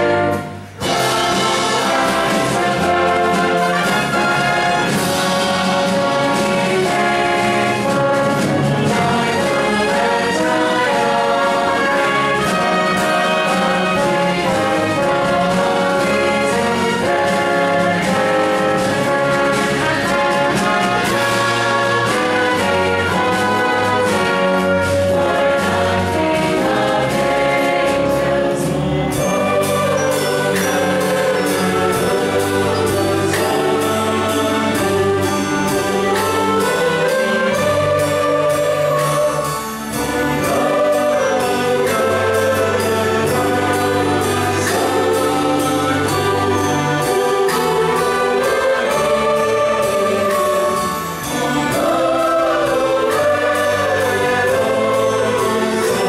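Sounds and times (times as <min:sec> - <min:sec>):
choir singing: 0:00.0 - 0:56.0
orchestra with prominent brass: 0:00.0 - 0:56.0.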